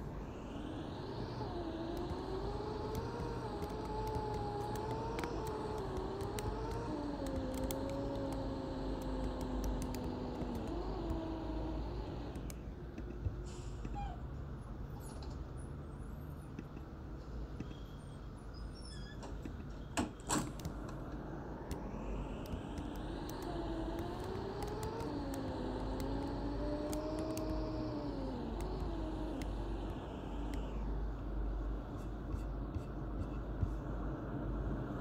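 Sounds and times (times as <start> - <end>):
driveline whine: 0.0 - 13.4, 19.4 - 35.0
bus engine rumble: 0.0 - 35.0.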